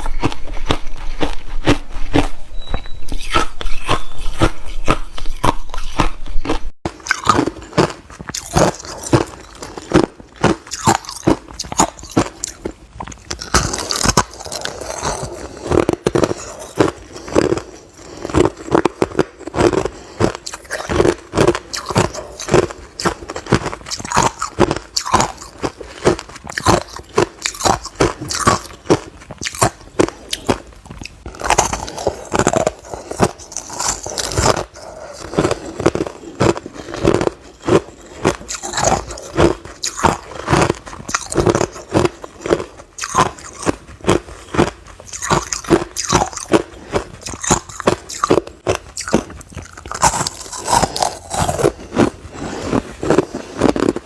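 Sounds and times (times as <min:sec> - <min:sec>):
person crunching ice: 0:00.0 - 0:02.4, 0:03.1 - 0:54.0.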